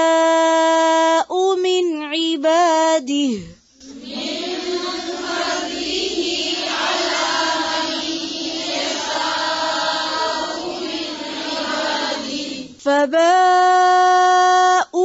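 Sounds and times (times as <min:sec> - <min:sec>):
woman chanting melodically: 0:00.0 - 0:15.0.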